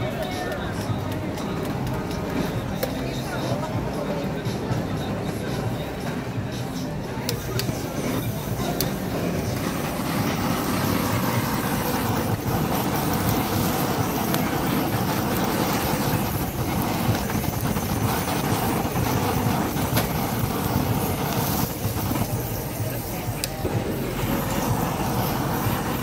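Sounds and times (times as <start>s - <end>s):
butane torch flame blowing: 0.1s - 26.0s.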